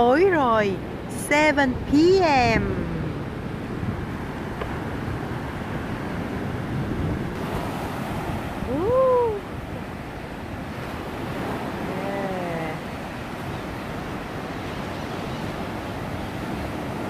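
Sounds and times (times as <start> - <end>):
wind on microphone: 0.0 - 17.0
surf breaking on sand: 1.3 - 17.0.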